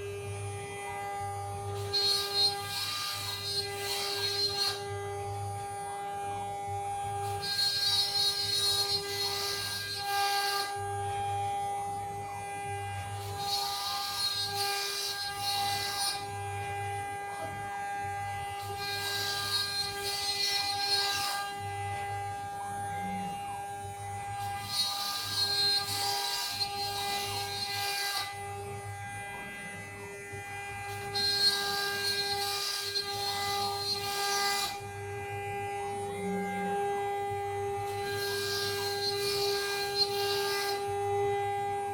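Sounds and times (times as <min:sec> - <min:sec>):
router bit cutting panel: 0:00.0 - 0:41.9
router spindle whine: 0:00.0 - 0:41.9.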